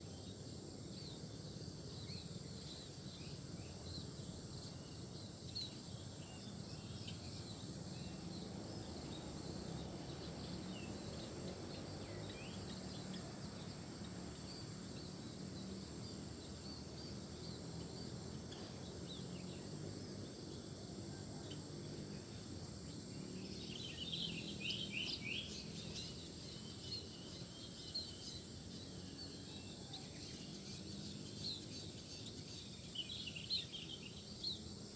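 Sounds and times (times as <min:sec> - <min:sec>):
small birds chirping: 0:00.0 - 0:20.7, 0:21.4 - 0:34.9
high insect drone: 0:00.0 - 0:34.9.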